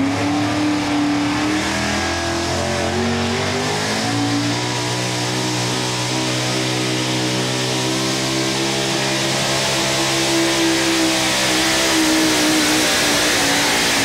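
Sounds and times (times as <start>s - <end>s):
truck engine at high revs: 0.0s - 14.0s.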